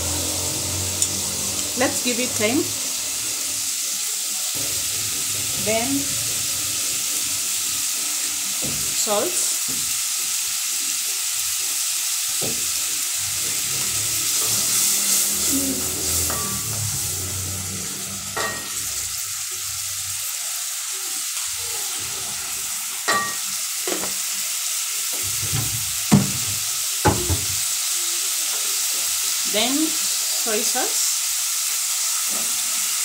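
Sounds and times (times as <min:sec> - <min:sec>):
sauce sizzling in a pot: 0:00.0 - 0:33.0.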